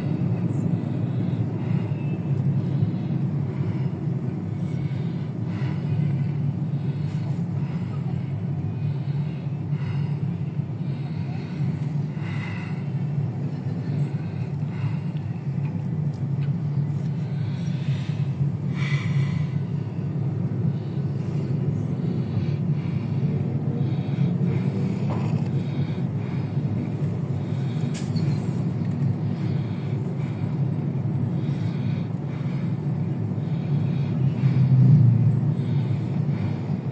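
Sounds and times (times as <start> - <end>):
car engine and tyre rumble: 0.0 - 36.9
surrounding traffic: 0.0 - 36.9.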